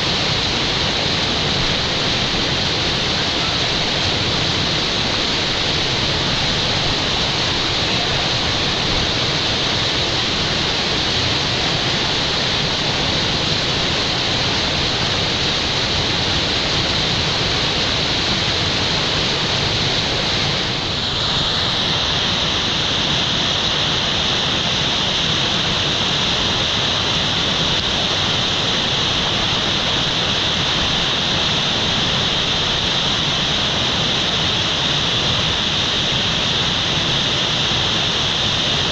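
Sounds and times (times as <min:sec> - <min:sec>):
whitewater rushing: 0:00.0 - 0:38.9.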